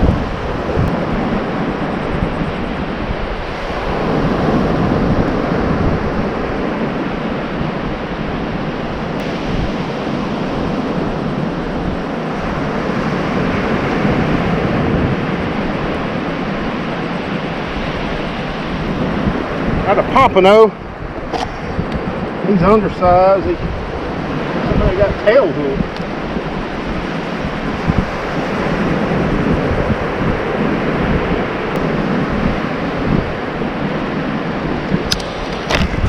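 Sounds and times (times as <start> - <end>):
ocean surf washing: 0.0 - 36.0
wind buffeting microphone: 0.0 - 36.0.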